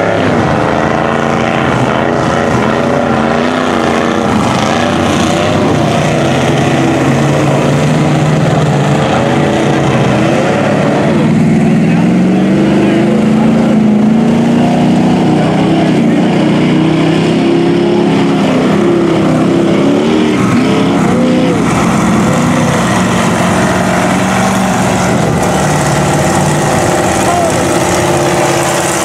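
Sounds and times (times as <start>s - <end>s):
tires splashing through water: 0.0s - 29.0s
truck engine revving: 0.0s - 29.0s.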